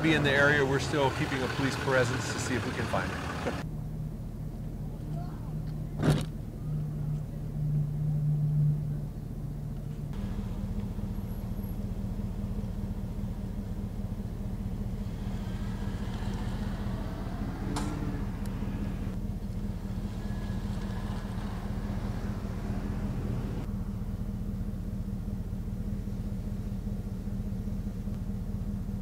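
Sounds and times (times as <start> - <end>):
vehicle engine idling: 0.0 - 29.0
vehicles driving slowly past: 0.0 - 29.0.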